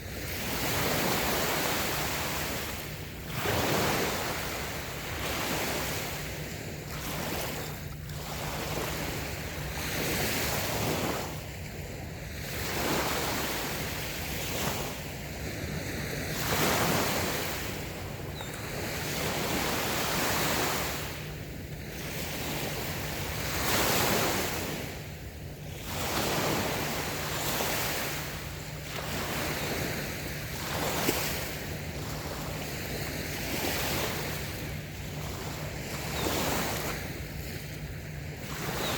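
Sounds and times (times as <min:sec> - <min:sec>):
small waves washing onto sand: 0:00.0 - 0:38.9
wind rumble on microphone: 0:00.0 - 0:38.9.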